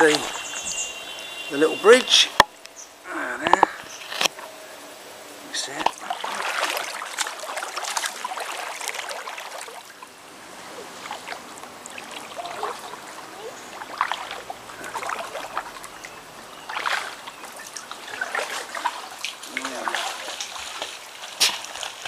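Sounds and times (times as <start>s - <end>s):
paddle splashing in water: 0.0s - 2.0s, 5.6s - 22.0s
water trickling: 0.0s - 22.0s.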